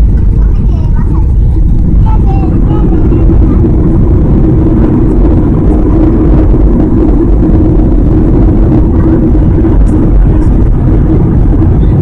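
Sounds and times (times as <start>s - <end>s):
aircraft engine rumble in cabin: 0.0s - 12.0s
steady low hum: 0.0s - 12.0s.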